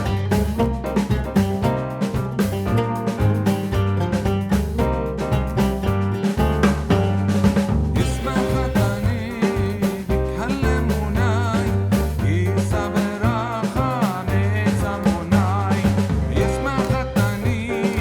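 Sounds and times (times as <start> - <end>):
upbeat music with drums: 0.0 - 18.0.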